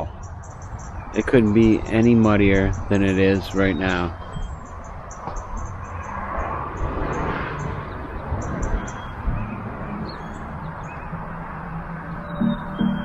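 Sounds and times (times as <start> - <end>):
bird chirps: 0.0 - 6.2, 7.1 - 13.0.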